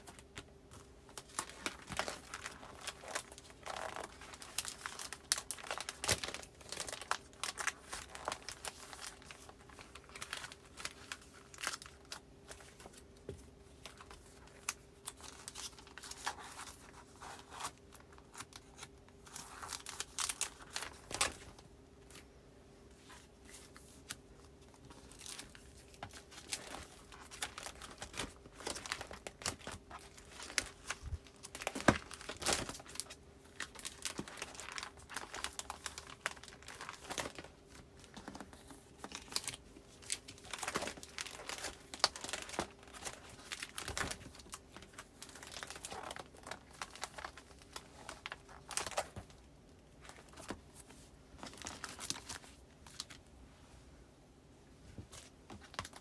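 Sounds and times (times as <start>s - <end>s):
paper rustling and crinkling: 0.0s - 22.3s, 22.9s - 53.3s, 54.8s - 56.0s.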